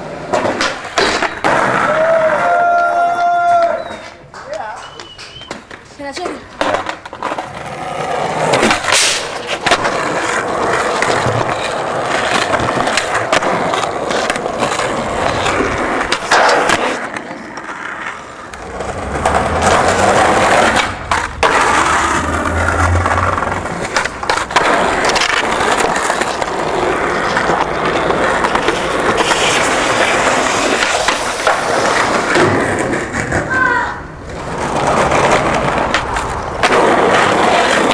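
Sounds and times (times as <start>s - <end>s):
skateboard clacking: 0.0s - 37.9s
skateboard wheels rolling on concrete: 0.0s - 37.9s.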